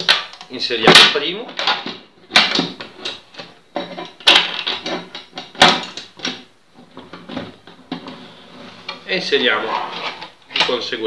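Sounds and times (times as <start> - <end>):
metal scraping and rattling: 1.6 - 10.9.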